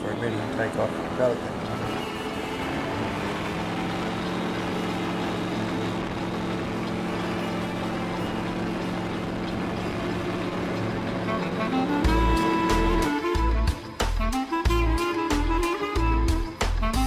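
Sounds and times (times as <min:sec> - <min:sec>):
microlight engine droning: 0:00.0 - 0:17.0.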